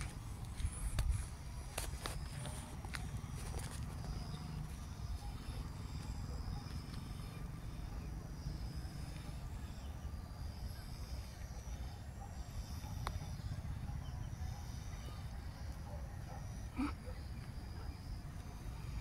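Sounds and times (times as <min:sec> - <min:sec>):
faint high chirping: 0:03.4 - 0:19.0.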